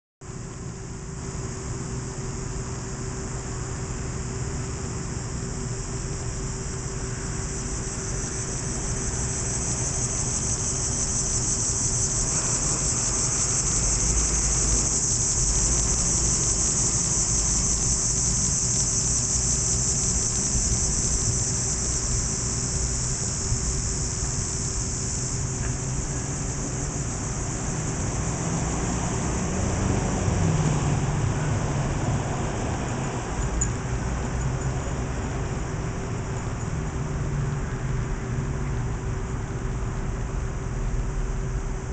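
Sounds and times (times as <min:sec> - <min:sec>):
cicadas buzzing: 0:00.3 - 0:41.9.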